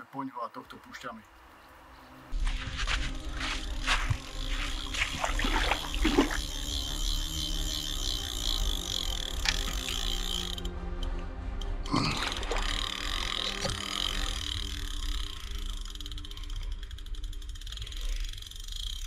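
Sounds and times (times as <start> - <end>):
fishing reel ratchet ticking: 2.9 - 19.0.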